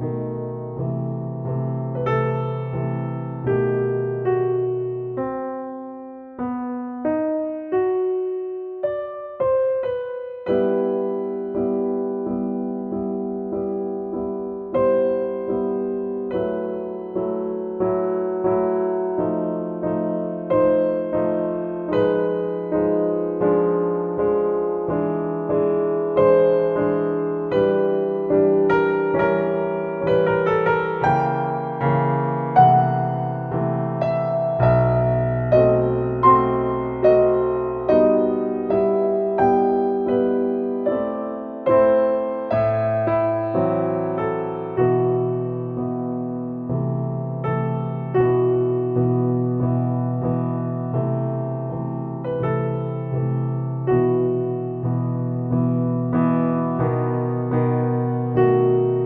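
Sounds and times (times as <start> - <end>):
slow gentle piano: 0.0 - 59.0.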